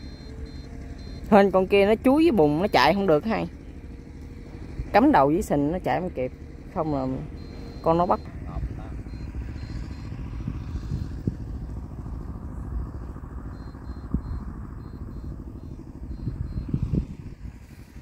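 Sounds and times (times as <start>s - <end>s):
low pulsing mechanical rumble: 0.0s - 18.0s.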